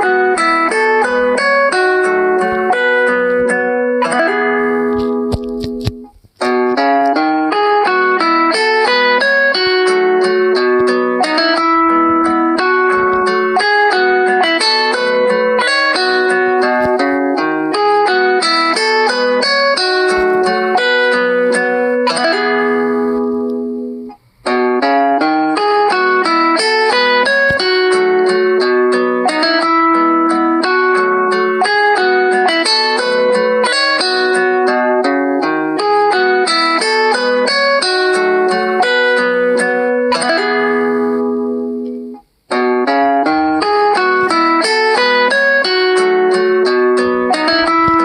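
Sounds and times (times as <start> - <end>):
plucked guitar ringtone melody: 0.0 - 48.0.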